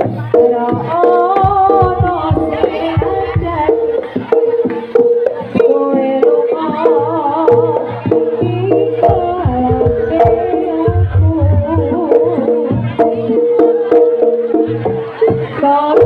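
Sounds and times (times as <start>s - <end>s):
hand-drum strokes: 0.0s - 16.0s.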